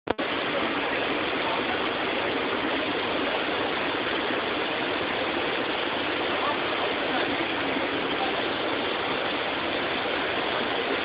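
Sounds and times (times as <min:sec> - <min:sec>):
waterfall rushing: 0:00.2 - 0:11.0.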